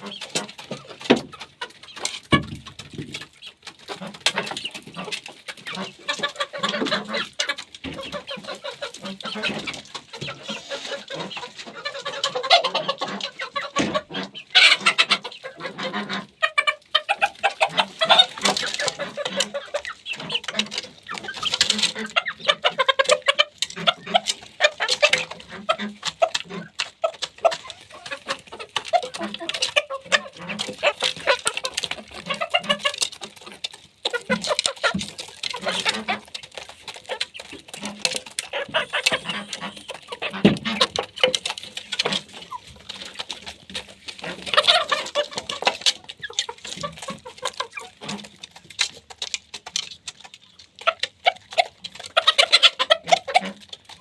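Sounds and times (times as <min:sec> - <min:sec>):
beaks pecking at feed: 0:00.0 - 0:54.0
chickens clucking: 0:00.0 - 0:54.0.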